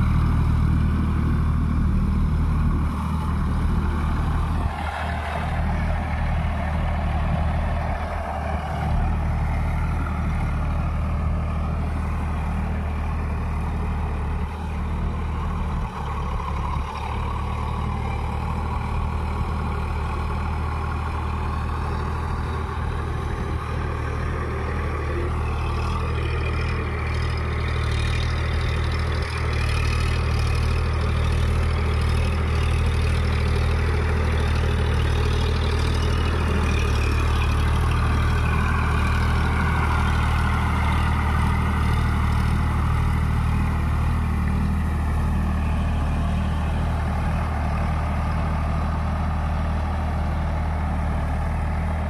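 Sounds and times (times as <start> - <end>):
tractor diesel engine under load: 0.0 - 52.0.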